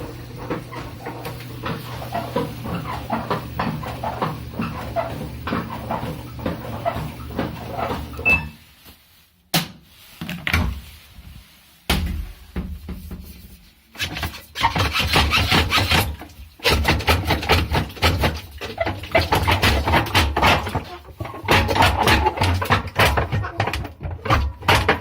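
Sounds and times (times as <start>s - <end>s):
washer drum knocking and rattling: 0.0s - 8.6s, 11.9s - 25.0s.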